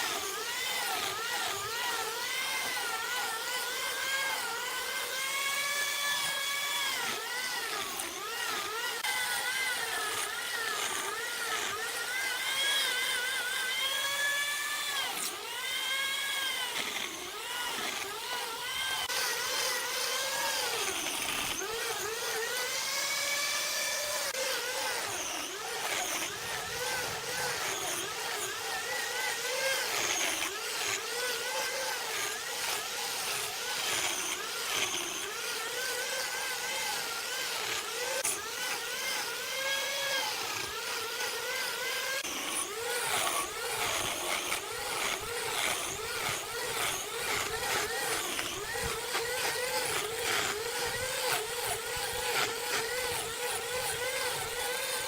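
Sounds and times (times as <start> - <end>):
power tool motor under load: 0.0 - 55.0.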